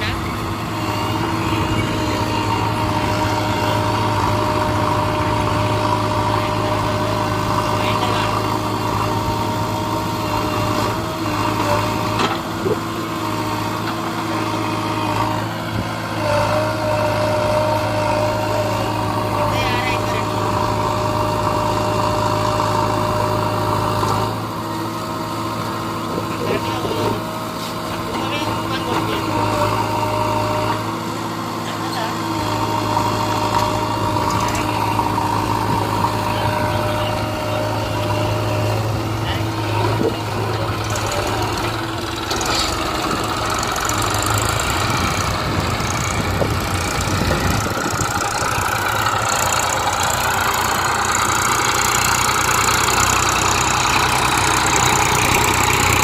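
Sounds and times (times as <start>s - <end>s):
people's voices: 0.0s - 15.4s, 16.2s - 24.3s, 26.0s - 31.0s, 31.6s - 55.6s
diesel engine running: 0.0s - 56.0s.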